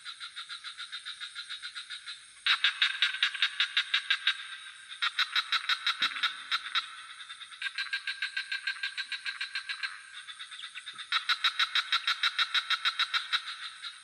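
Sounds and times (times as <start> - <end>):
frog calling in pulsed trills: 0.0 - 14.0.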